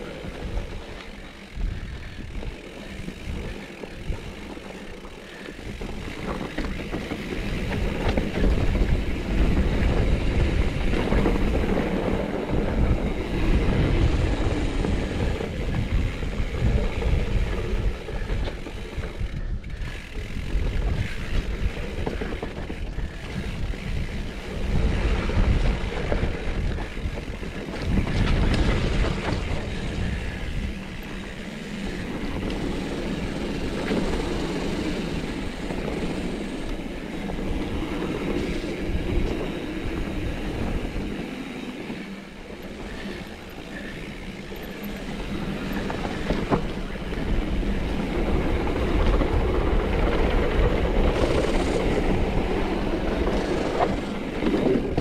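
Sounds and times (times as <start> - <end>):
bike clattering and rattling: 0.0 - 55.0
bike tyres rumbling on dirt: 0.0 - 55.0.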